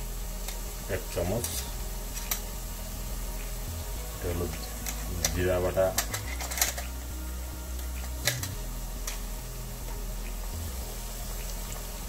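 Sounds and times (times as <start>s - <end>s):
onions sizzling in oil: 0.0s - 12.0s
steady low hum: 0.0s - 12.0s.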